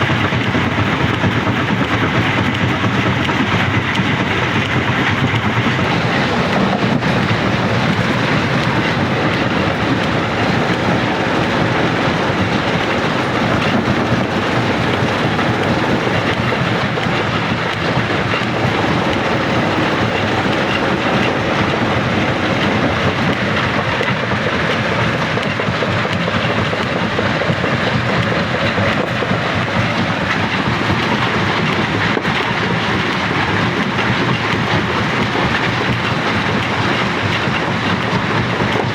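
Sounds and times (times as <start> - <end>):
rock crusher rattling and grinding: 0.0 - 38.9.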